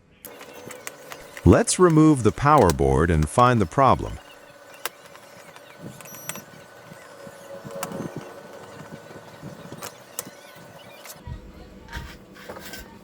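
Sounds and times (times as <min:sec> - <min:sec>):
electric screwdriver running: 0:00.2 - 0:11.3.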